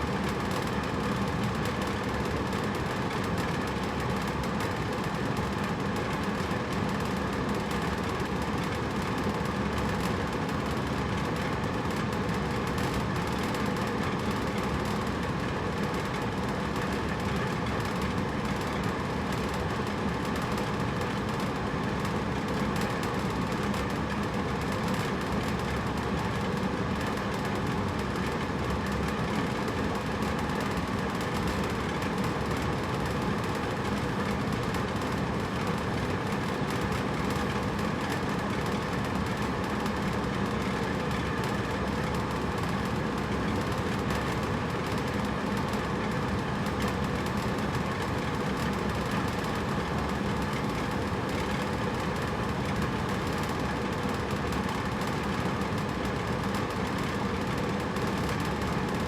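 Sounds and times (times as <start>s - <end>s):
air conditioner running: 0.0s - 59.0s.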